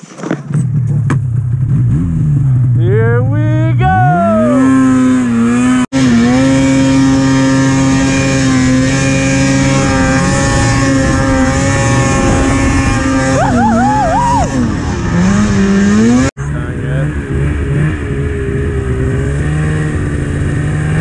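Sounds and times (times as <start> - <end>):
snowmobile engine revving: 1.6 - 21.0.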